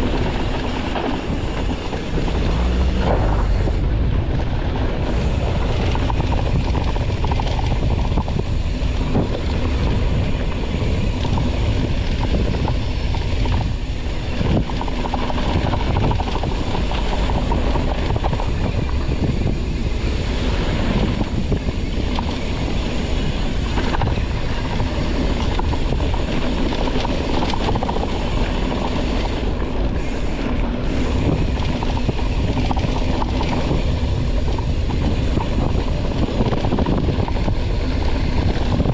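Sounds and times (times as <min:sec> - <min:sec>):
mountain bike rattling on trail: 0:00.0 - 0:38.9
wind buffeting microphone: 0:00.0 - 0:38.9.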